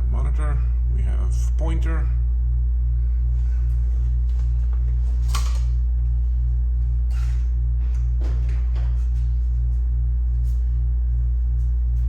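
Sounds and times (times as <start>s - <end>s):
pulsing electrical hum: 0.0s - 12.0s.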